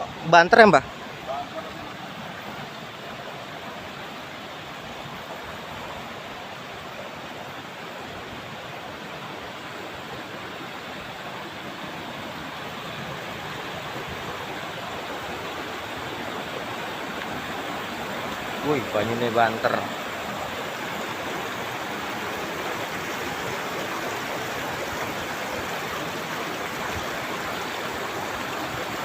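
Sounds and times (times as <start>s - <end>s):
river current rushing: 0.0s - 29.0s.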